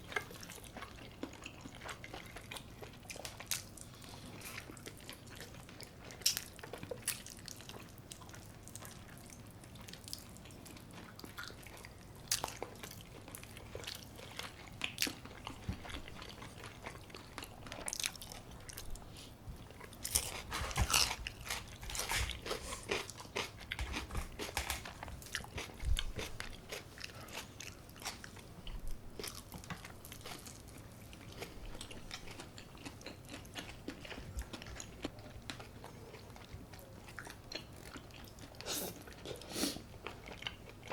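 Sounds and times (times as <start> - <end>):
crunchy food chewing: 0.0 - 19.0, 19.6 - 40.9.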